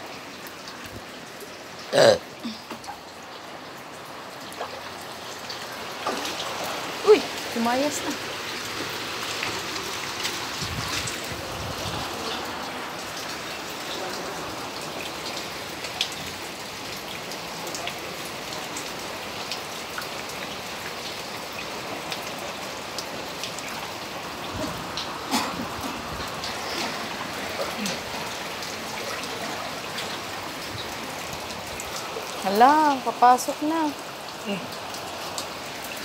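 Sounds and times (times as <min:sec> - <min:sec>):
heavy rain on water: 0:00.0 - 0:36.0.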